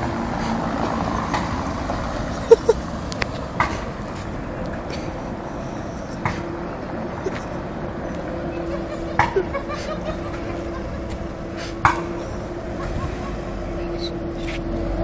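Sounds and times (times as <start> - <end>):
steady traffic noise: 0.0 - 15.0.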